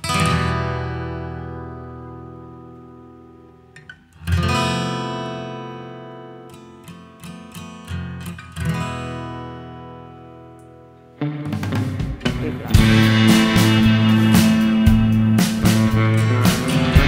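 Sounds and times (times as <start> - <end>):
acoustic guitar strumming and plucking: 0.0 - 17.0.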